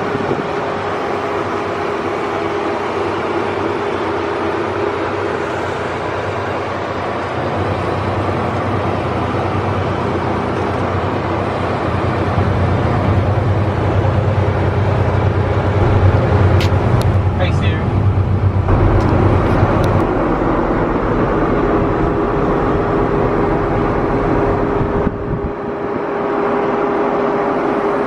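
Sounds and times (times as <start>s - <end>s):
vehicle engine droning: 0.9s - 28.0s.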